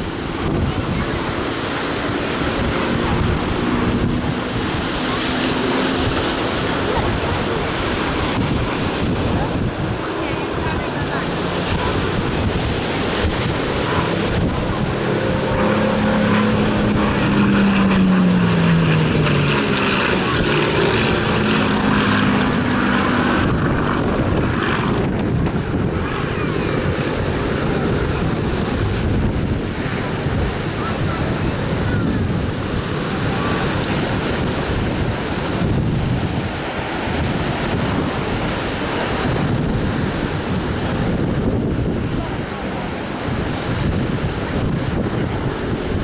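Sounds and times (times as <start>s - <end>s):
propeller plane engine passing: 0.0s - 46.0s
wind noise on microphone: 0.0s - 46.0s.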